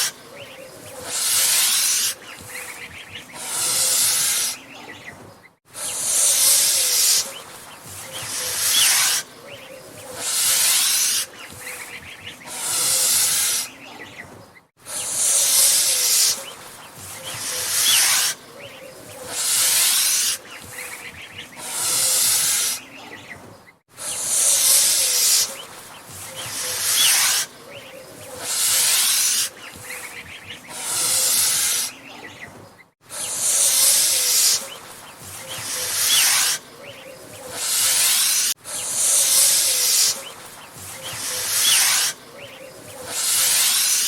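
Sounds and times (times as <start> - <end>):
goose hissing: 0.0 - 5.0, 5.7 - 14.1, 14.8 - 23.1, 23.9 - 32.2, 33.0 - 44.0.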